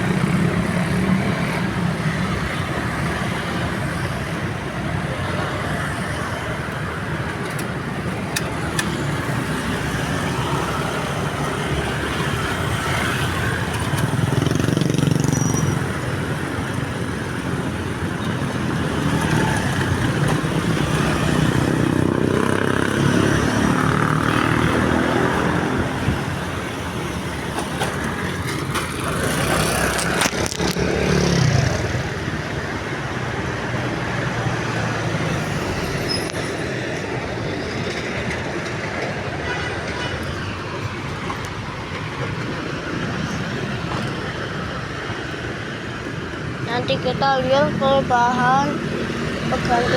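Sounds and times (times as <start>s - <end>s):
road traffic passing: 0.0s - 49.9s.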